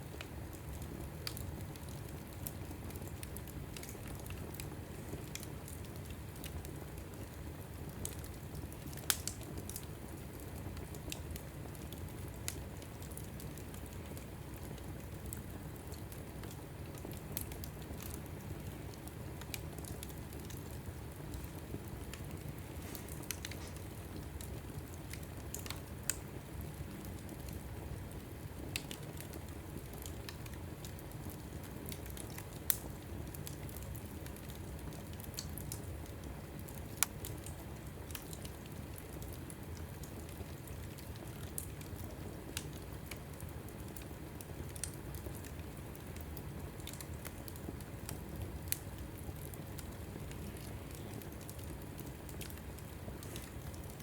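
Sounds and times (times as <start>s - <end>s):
fire crackling and popping: 0.0s - 54.0s
fire flames rumbling: 0.0s - 54.0s.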